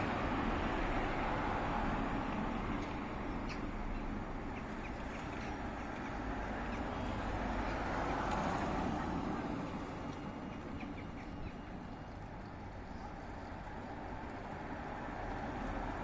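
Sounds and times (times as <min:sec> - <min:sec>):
steady traffic hum: 0:00.0 - 0:16.0
vehicle passing: 0:00.0 - 0:16.0.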